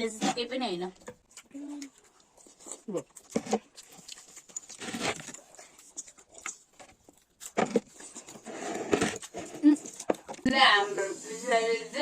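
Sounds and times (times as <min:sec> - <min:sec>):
chewing and crunching food: 0:00.0 - 0:10.8.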